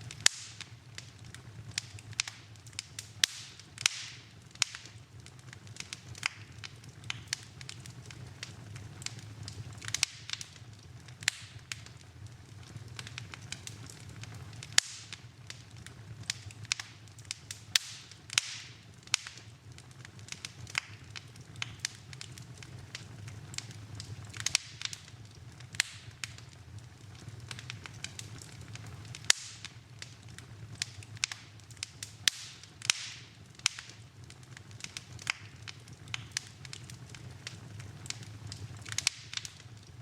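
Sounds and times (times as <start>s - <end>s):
fire crackles and pops: 0.0s - 40.0s
low rumble of flames: 0.0s - 40.0s.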